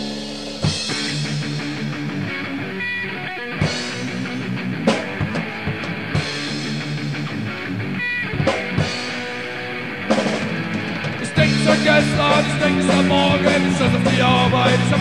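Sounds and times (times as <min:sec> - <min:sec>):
distorted electric guitars: 0:00.0 - 0:15.0
drum kit: 0:00.0 - 0:15.0.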